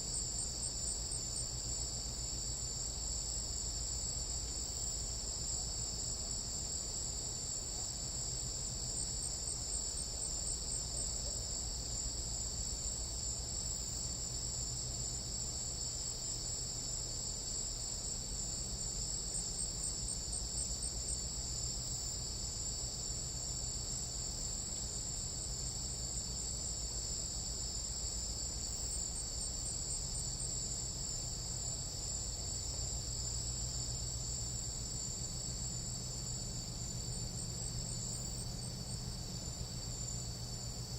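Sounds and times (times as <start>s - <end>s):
night insects calling: 0.0s - 40.9s.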